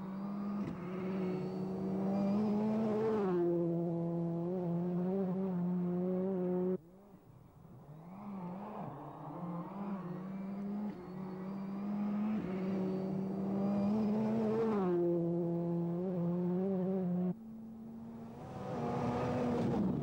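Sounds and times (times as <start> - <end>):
rally car engine at high revs: 0.0 - 6.8, 7.9 - 20.0.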